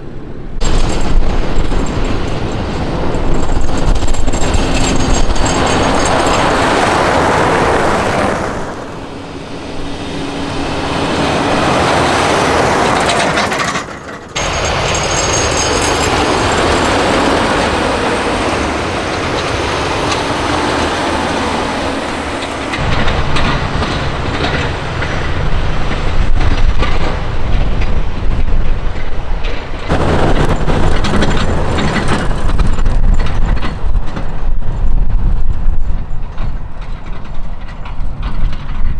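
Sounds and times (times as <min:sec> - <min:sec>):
heavy trucks engine rumble: 0:00.0 - 0:38.9.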